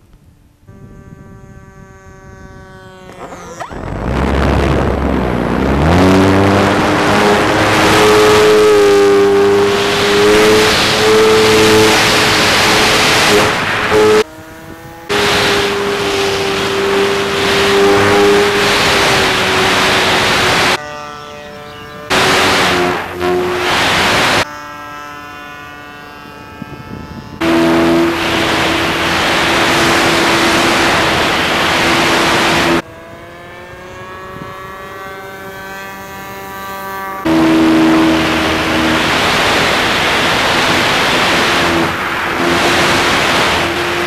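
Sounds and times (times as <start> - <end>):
wind rush on microphone: 0.0 - 20.8, 21.4 - 24.5, 26.1 - 36.2, 37.2 - 44.0
electric motor whining: 0.6 - 44.0.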